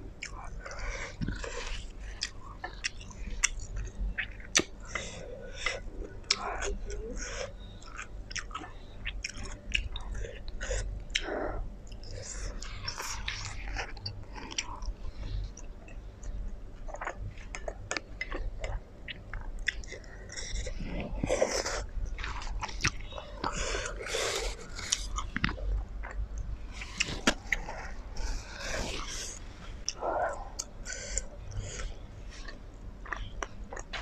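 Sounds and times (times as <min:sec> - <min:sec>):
wet chewing of noodles: 0:00.1 - 0:34.0.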